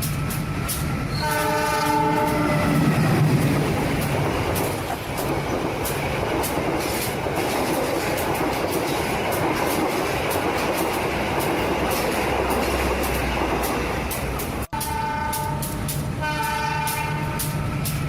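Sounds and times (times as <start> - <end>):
train rolling rumble: 0.0 - 18.0
wheels clicking over rail joints: 0.0 - 18.0.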